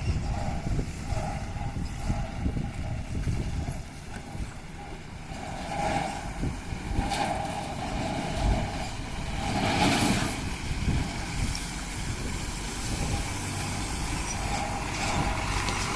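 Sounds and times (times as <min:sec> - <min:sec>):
heavy truck engine rumbling: 0:00.0 - 0:15.9.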